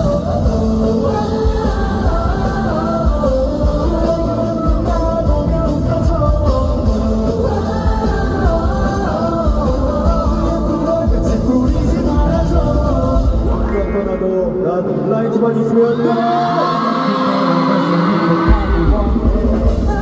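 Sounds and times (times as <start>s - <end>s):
backing track with heavy bass: 0.0s - 16.8s, 18.2s - 20.0s
man singing into a microphone: 0.0s - 20.0s.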